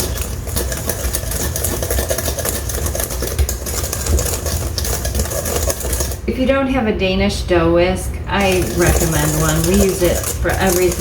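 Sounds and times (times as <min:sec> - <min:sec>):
whisk scraping and clicking in bowl: 0:00.0 - 0:06.3, 0:08.4 - 0:11.0.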